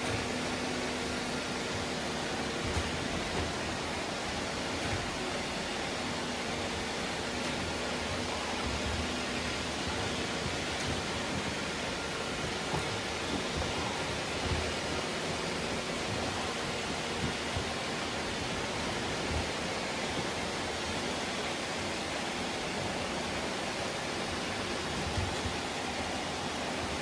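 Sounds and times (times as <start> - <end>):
robot vacuums whirring: 0.0 - 27.0.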